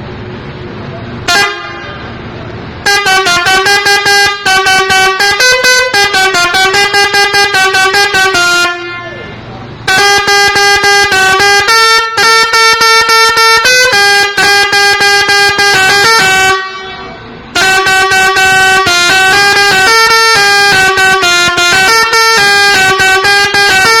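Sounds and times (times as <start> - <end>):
multi-note horn tune: 1.3 - 2.2, 2.8 - 9.2, 9.9 - 24.0.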